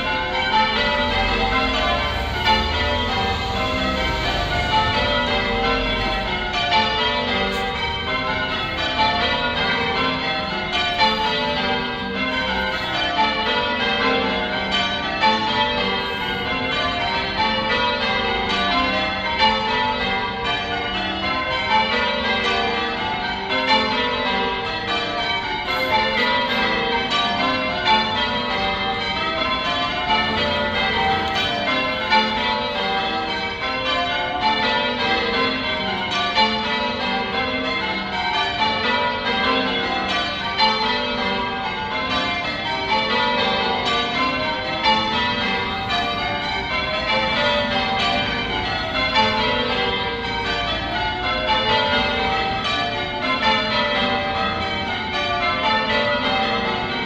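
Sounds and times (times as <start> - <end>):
church bells pealing: 0.0 - 57.0.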